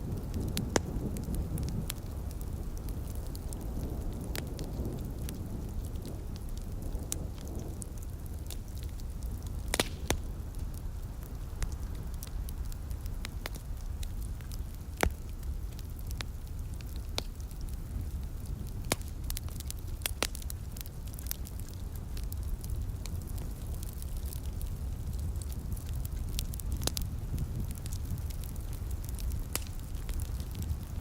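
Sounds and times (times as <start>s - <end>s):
low rumble of flames: 0.0s - 31.0s
wood fire crackling: 0.0s - 31.0s.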